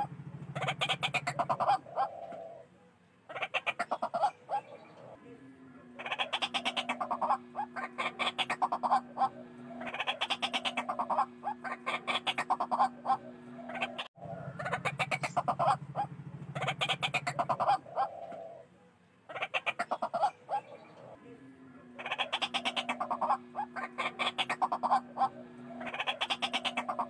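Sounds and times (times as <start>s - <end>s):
steady low hum: 0.0s - 3.3s, 4.4s - 19.3s, 20.4s - 27.0s
bird croaking calls: 0.0s - 27.0s.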